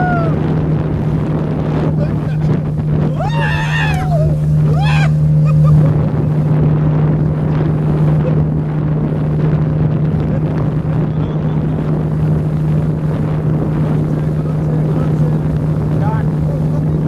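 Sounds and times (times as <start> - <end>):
speedboat engine running: 0.0 - 17.0
wind buffeting microphone: 0.0 - 17.0.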